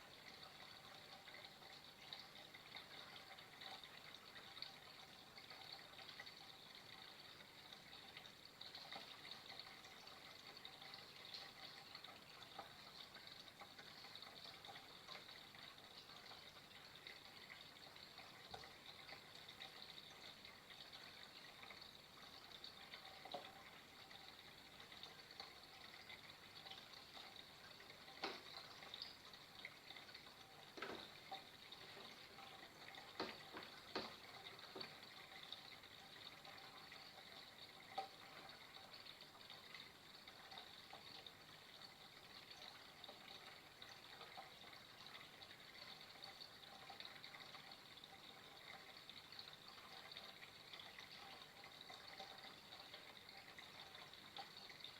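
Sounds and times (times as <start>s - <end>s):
water drips and splashes: 0.0s - 54.9s
water trickling: 0.0s - 54.9s.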